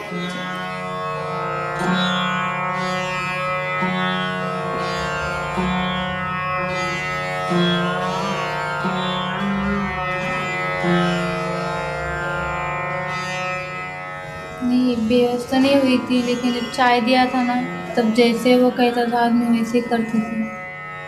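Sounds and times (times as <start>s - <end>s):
plucked-string melody: 0.0s - 21.0s.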